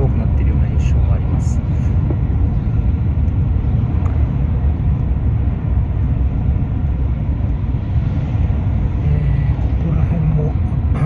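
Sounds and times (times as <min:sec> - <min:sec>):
car interior road noise: 0:00.0 - 0:11.0.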